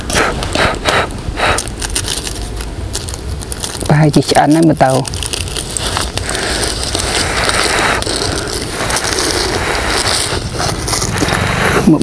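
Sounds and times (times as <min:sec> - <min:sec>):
embers and ash crunching: 0:00.0 - 0:12.0.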